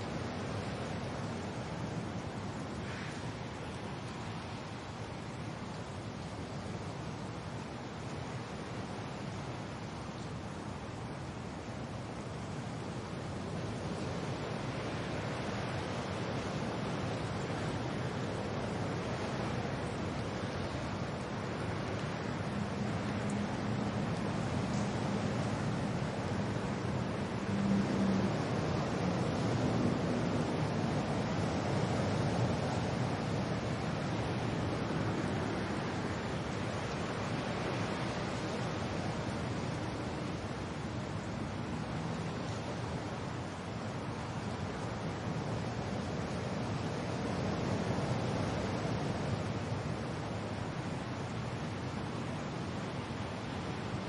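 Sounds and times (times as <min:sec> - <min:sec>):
wind and rain hiss: 0:00.0 - 0:54.0.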